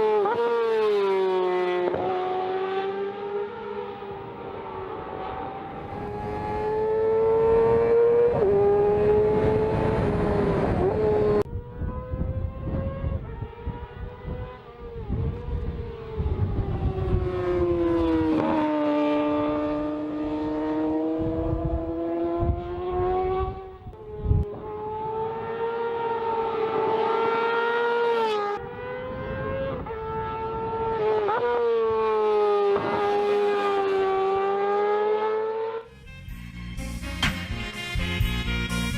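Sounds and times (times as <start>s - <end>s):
motorcycle engine at high revs: 0.0s - 35.9s.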